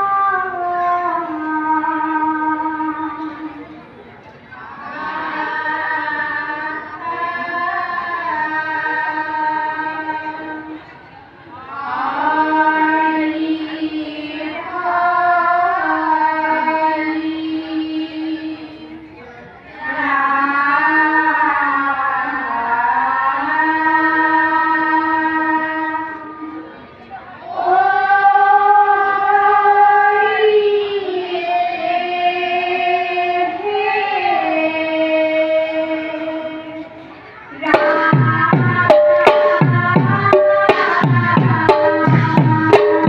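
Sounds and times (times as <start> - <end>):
women chanting in unison: 4.5 - 19.1, 19.7 - 26.5, 27.4 - 43.0.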